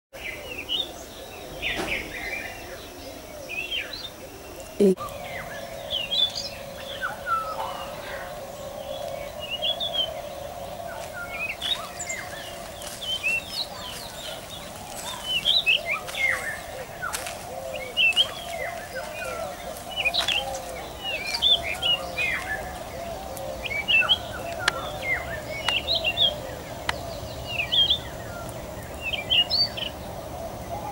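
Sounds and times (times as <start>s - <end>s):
small birds chirping: 0.2s - 30.9s.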